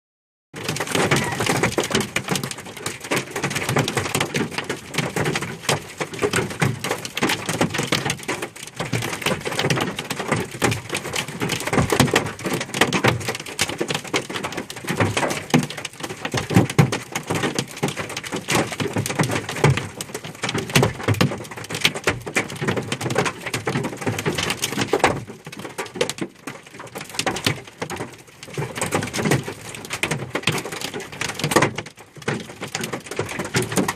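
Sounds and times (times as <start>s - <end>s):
hail clattering on hard surfaces: 0.6s - 33.9s.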